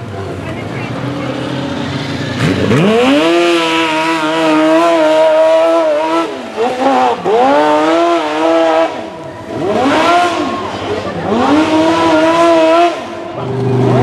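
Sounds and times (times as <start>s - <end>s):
buggy engine revving hard: 0.0s - 14.0s.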